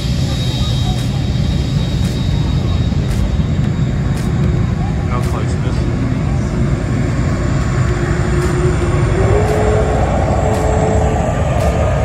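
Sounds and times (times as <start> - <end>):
jet engines rumbling: 0.0 - 12.0
thin jet engine whine: 0.0 - 12.0.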